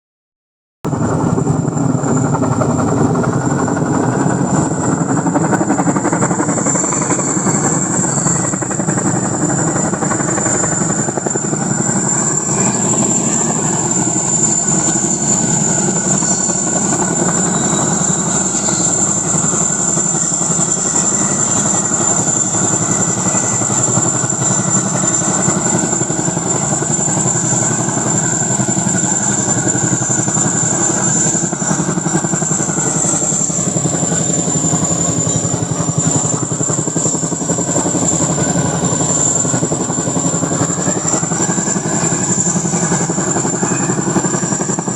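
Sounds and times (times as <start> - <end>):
helicopter rotor chop: 0.9 - 44.9
high whine: 0.9 - 44.9.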